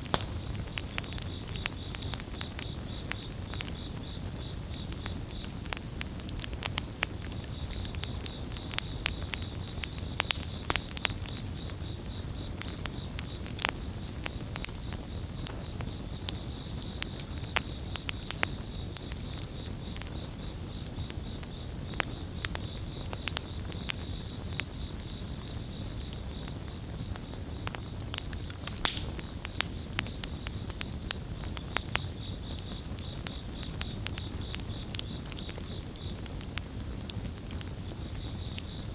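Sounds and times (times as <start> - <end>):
campfire crackling and popping: 0.0 - 38.9
crickets chirping: 0.0 - 38.9.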